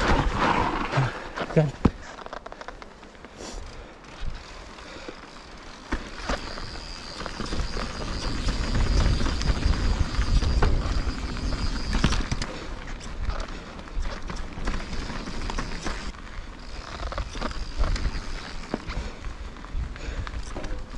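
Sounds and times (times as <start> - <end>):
bike rattling over bumps: 0.0 - 20.9
bike tyres rumbling on dirt: 0.0 - 20.9.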